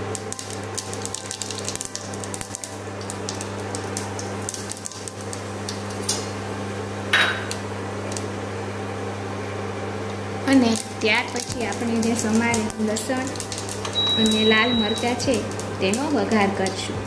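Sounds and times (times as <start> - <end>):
induction cooktop hum: 0.0 - 17.0
seeds crackling in hot oil: 0.0 - 17.0.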